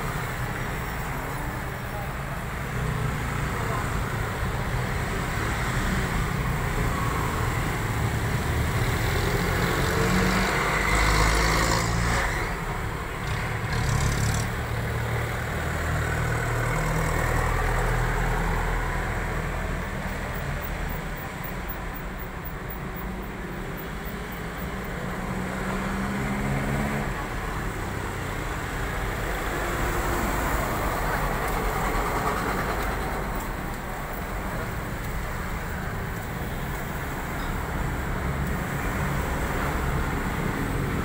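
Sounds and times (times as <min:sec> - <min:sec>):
street traffic noise: 0:00.0 - 0:41.0.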